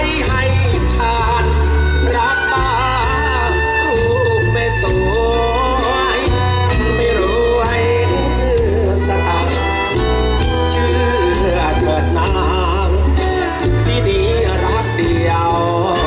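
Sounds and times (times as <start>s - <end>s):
live band playing: 0.0s - 16.0s
man singing: 0.0s - 16.0s.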